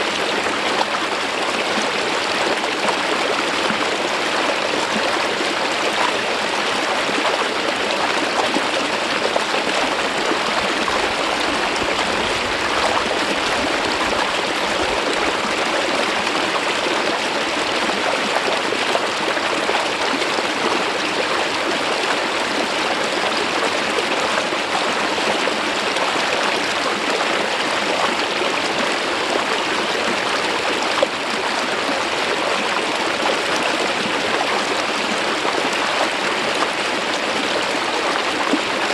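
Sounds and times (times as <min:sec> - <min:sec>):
stream water flowing over rock: 0:00.0 - 0:38.9.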